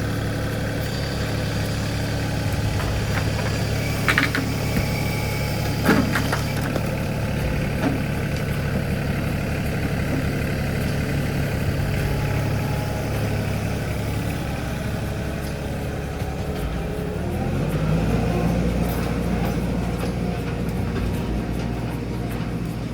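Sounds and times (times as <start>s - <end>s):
tractor engine idling: 0.0s - 22.9s.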